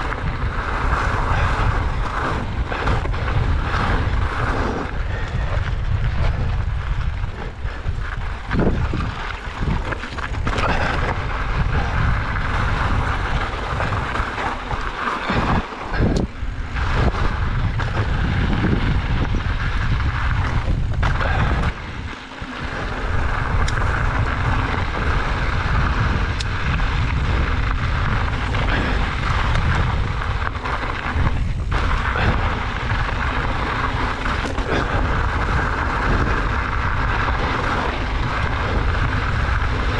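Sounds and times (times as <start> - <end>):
bike tyres on trail: 0.0 - 39.9
wind buffeting microphone: 0.0 - 39.9.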